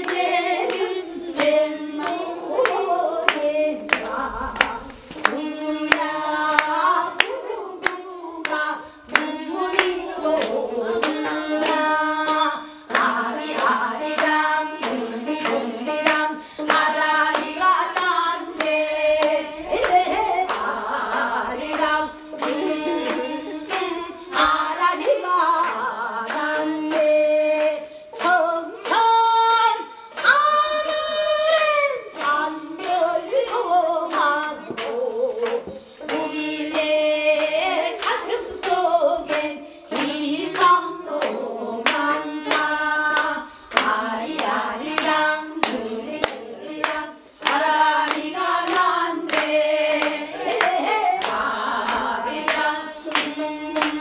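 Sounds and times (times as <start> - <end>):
person singing long bending notes: 0.0 - 54.0.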